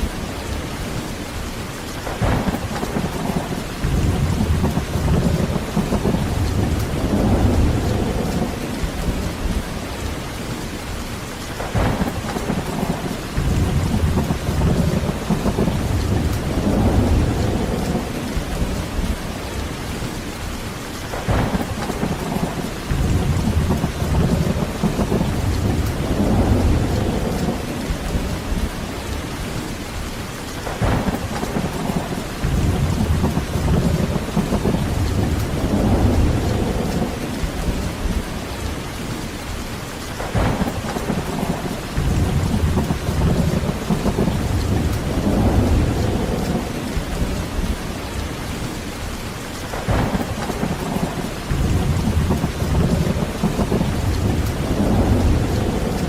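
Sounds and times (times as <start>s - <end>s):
heavy rain: 0.0s - 56.0s
thunder cracking and rumbling: 2.0s - 10.7s, 11.5s - 20.4s, 21.1s - 29.7s, 30.6s - 39.4s, 40.2s - 49.0s, 49.6s - 56.0s.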